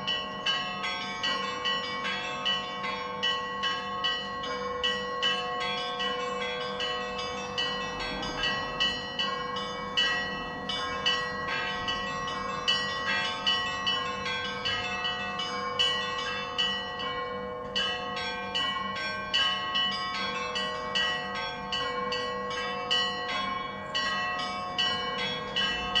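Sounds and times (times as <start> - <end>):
large bells humming: 0.0 - 26.0
small church bells striking rapidly: 0.0 - 26.0.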